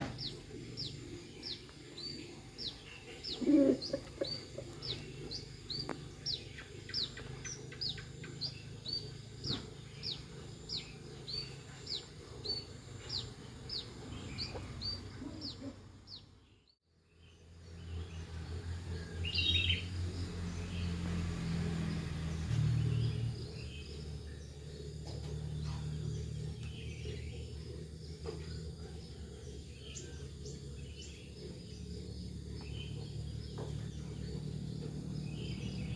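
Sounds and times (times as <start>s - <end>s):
low steady rumble: 0.0s - 16.6s, 17.2s - 35.9s
birds chirping: 0.0s - 35.9s.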